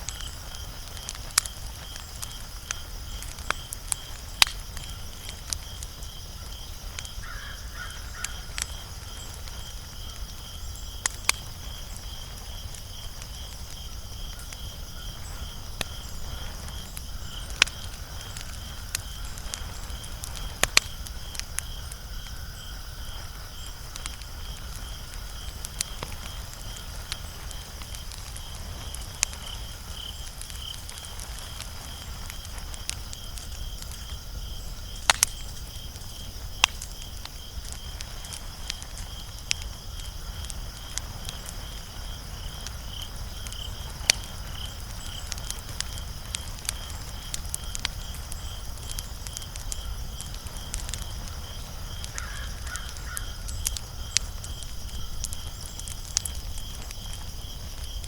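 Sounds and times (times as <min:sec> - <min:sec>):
low rumble of flames: 0:00.0 - 0:58.0
sharp pops of fire: 0:00.0 - 0:58.0
wood fire crackling: 0:00.0 - 0:58.0.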